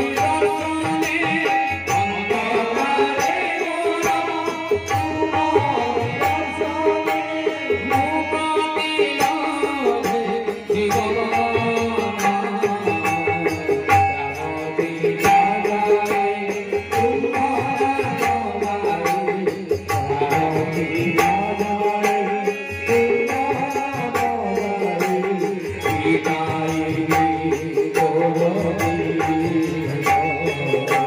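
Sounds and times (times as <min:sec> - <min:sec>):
harmonium and keyboard: 0:00.0 - 0:31.0
man singing: 0:00.0 - 0:31.0
percussion beat: 0:00.0 - 0:31.0.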